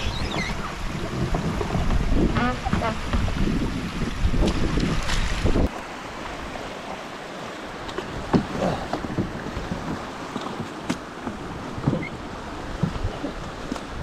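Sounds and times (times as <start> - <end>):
paddle strokes: 0.0 - 14.0
paddle knocking against hull: 0.2 - 5.7, 7.9 - 14.0.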